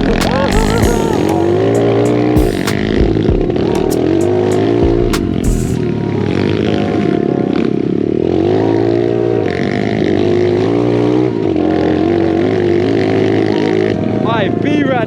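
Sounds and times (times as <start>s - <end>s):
pit bike engines revving: 0.0s - 15.0s.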